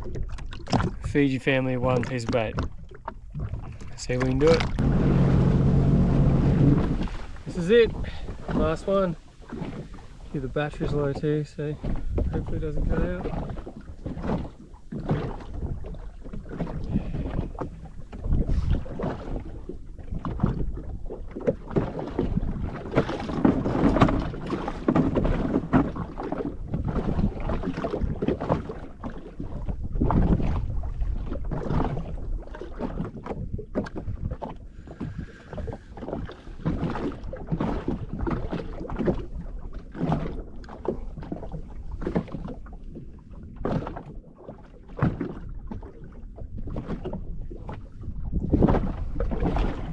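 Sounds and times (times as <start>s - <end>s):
small waves slapping a hull: 0.0s - 49.9s.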